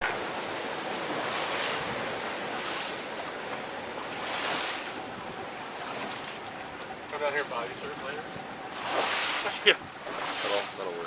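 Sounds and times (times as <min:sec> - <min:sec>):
sea water washing: 0:00.0 - 0:11.0.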